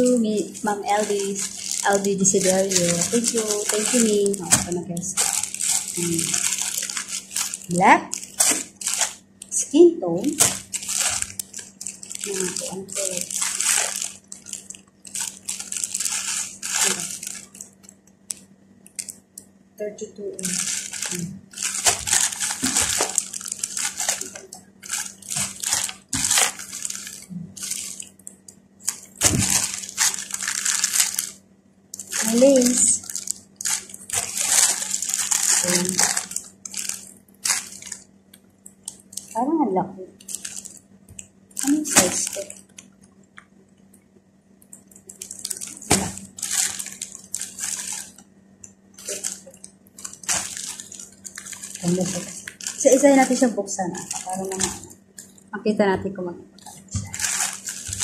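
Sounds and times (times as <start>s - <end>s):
plastic packaging crinkling: 0.0s - 43.9s, 44.5s - 55.6s, 56.6s - 58.0s.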